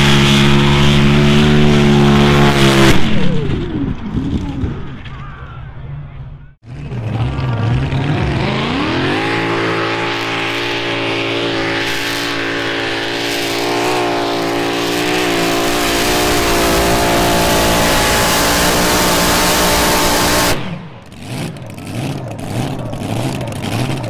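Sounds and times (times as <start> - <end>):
supercharged engine revving: 0.0 - 4.8, 6.6 - 24.0.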